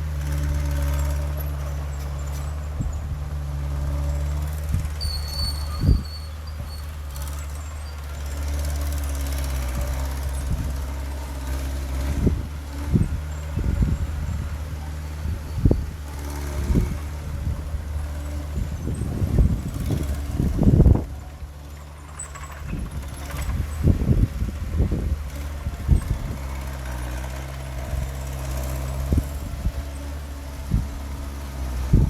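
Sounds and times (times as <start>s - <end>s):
heavy machine engine humming: 0.0s - 32.0s.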